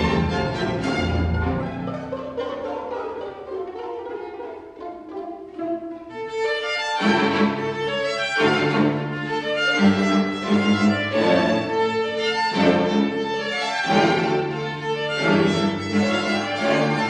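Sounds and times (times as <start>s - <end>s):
string orchestra playing: 0.0s - 17.0s.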